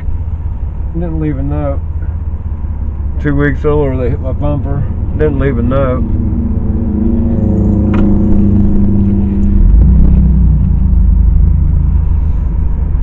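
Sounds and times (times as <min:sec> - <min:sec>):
car engine drone: 0:00.0 - 0:13.0
deep heavy rumble: 0:00.0 - 0:13.0
road rumble: 0:00.0 - 0:13.0.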